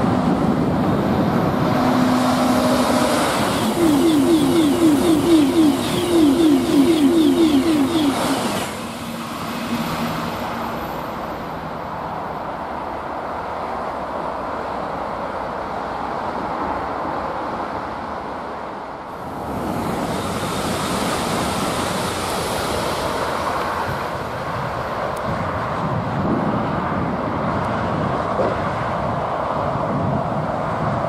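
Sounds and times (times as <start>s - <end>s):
road traffic: 0.0s - 31.0s
wind: 0.0s - 31.0s.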